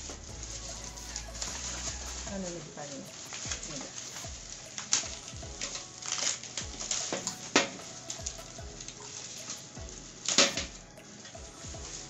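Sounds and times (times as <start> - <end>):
plastic bag and bubble wrap crinkling: 0.0 - 12.0.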